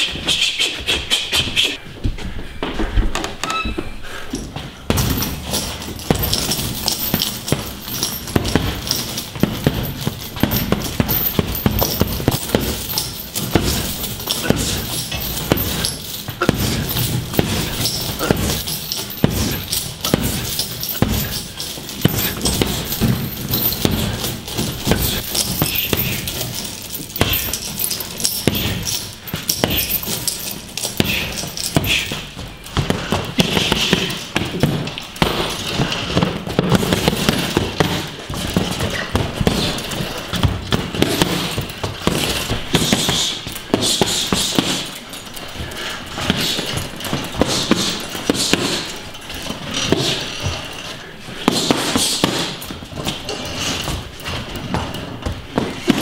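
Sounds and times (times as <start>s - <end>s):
boxing gloves hitting pads: 4.9s - 45.1s, 45.7s - 50.6s, 51.3s - 56.0s.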